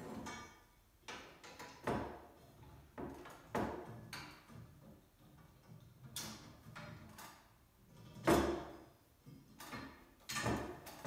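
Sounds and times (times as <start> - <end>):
metal tubes knocking and scraping: 0.0 - 11.0.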